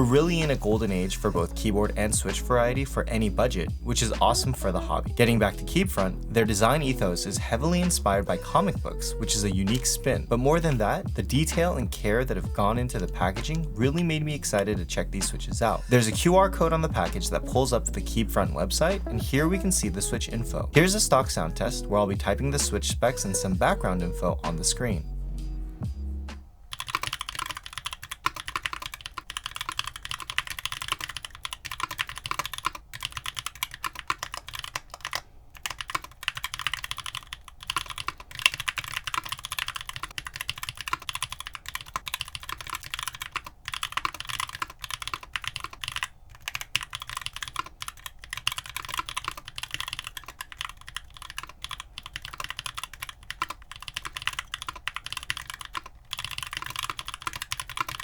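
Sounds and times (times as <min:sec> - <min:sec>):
mechanical keyboard typing: 0:00.0 - 0:20.2, 0:26.7 - 0:58.0.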